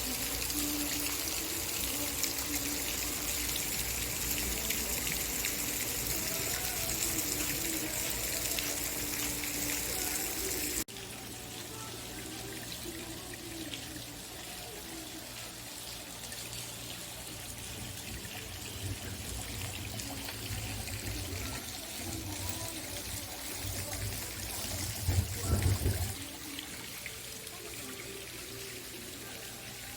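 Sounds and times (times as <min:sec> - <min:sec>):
water trickling and splashing: 0:00.0 - 0:29.9.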